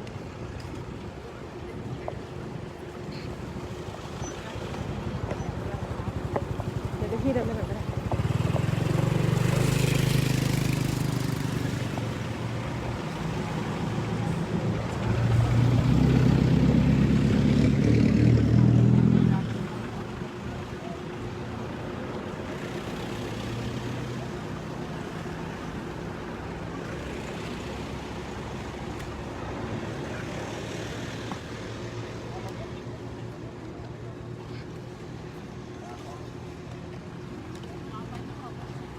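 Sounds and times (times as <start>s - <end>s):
vehicle engines on a road: 0.0s - 38.9s.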